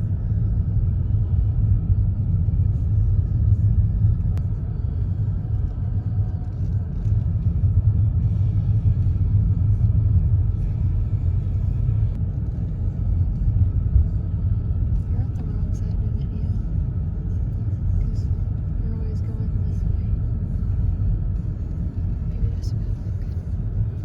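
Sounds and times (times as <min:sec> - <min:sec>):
car road rumble from inside: 0:00.0 - 0:24.0.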